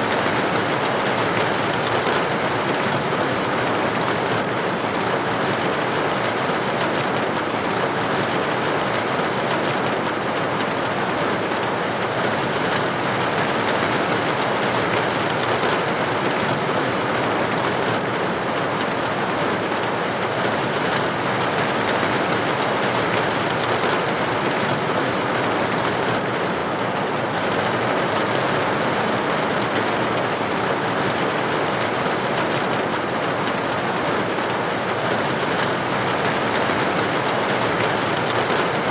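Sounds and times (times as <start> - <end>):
rain pattering on window: 0.0 - 38.9.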